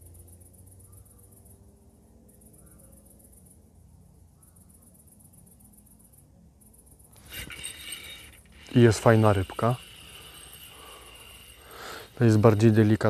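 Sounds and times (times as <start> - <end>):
cricket chirping: 0.0 - 13.0
low hum: 0.0 - 13.0.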